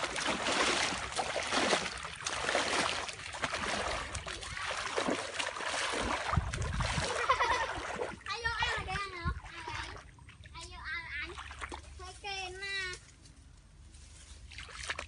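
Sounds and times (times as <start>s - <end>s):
wading through stream water: 0.0s - 12.5s, 14.0s - 15.0s.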